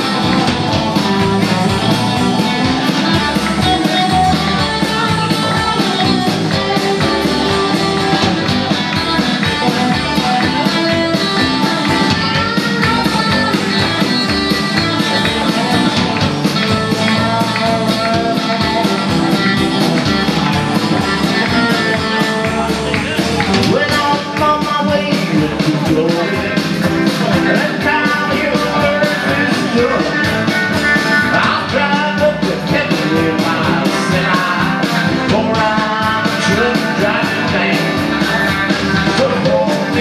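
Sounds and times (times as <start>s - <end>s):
country-rock band playing: 0.0s - 40.0s
guitar: 0.0s - 40.0s
steady drum beat: 0.0s - 40.0s.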